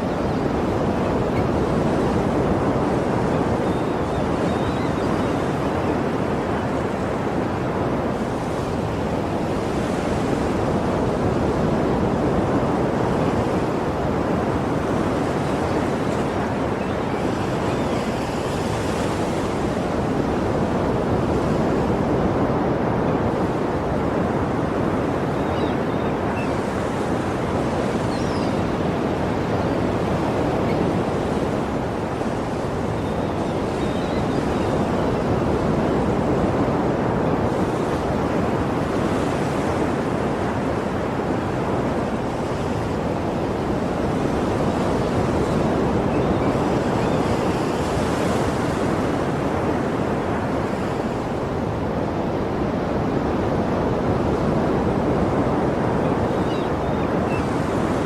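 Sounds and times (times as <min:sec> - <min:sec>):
waves washing in: 0:00.0 - 0:58.0.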